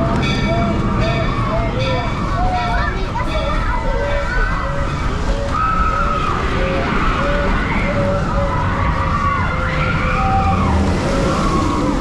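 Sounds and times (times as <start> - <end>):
train rumbling: 0.0 - 12.0
wheels squealing: 0.0 - 12.0.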